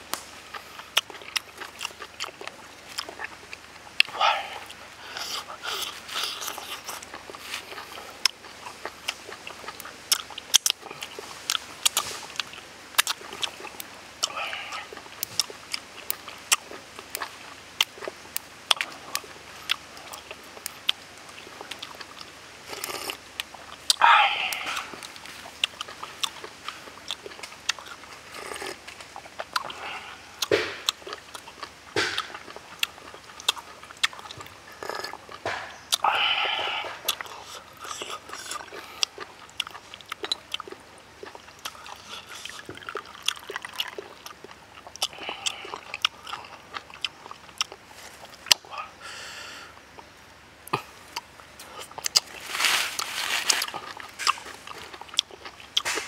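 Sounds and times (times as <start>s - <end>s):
wet chewing and crunching: 0.0s - 48.9s, 49.7s - 56.0s.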